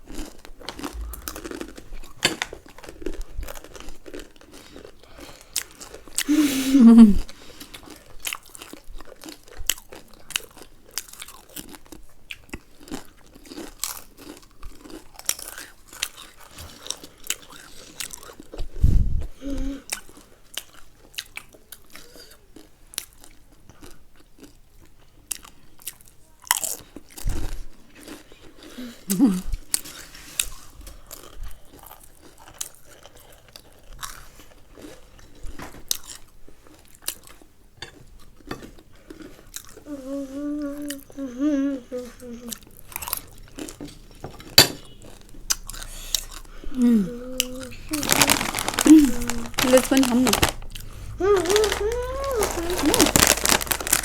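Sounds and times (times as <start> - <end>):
crunching and chewing snack: 0.0 - 18.8, 19.4 - 41.3, 42.2 - 54.0.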